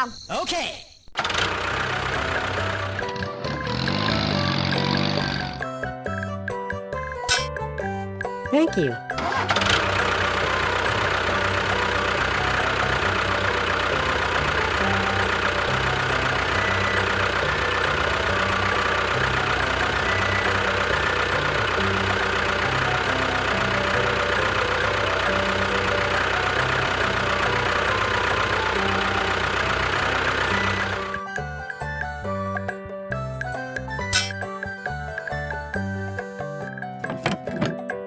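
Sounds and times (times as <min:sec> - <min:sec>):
engine idling with knocking chug: 0:01.2 - 0:05.6, 0:09.1 - 0:38.0.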